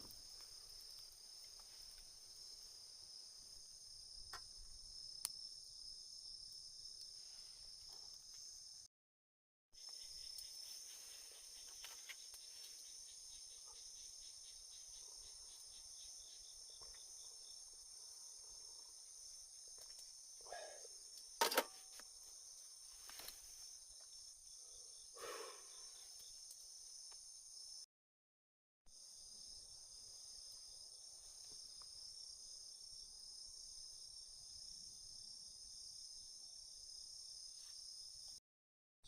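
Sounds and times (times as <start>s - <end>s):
crickets chirping: 0.0s - 8.9s, 9.8s - 27.9s, 28.9s - 38.4s.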